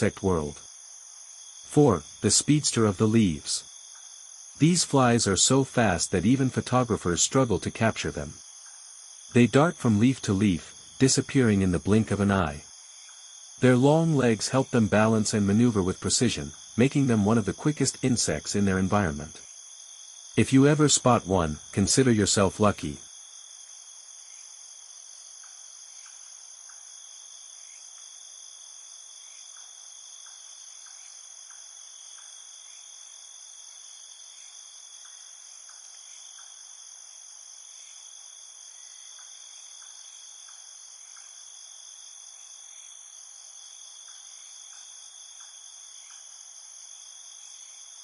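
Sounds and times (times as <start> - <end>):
shrill insect chorus: 0.0 - 48.0.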